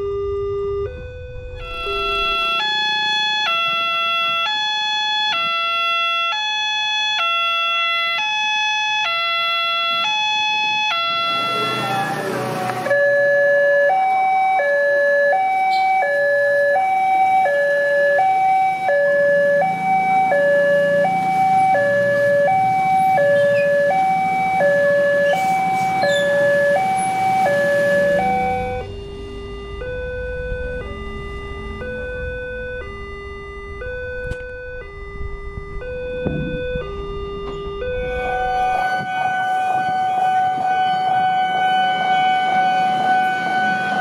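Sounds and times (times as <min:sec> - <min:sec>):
two-tone crossing alarm: 0:00.0 - 0:44.0.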